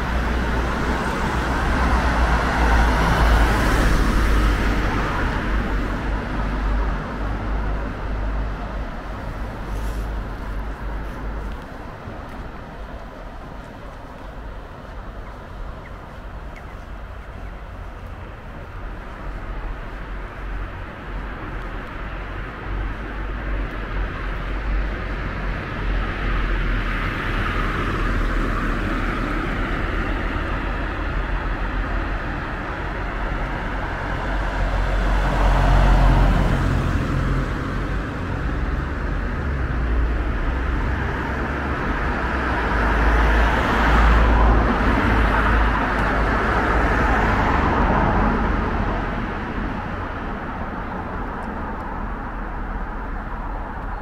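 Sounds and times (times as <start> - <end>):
road traffic with cars passing: 0.0 - 54.0.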